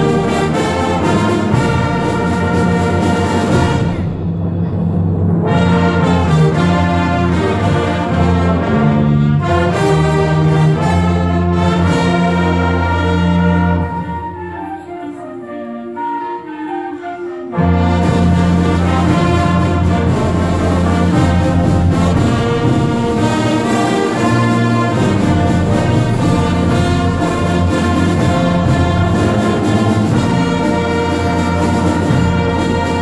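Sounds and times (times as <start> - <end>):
brass: 0.0 - 33.0
concert band playing: 0.0 - 33.0.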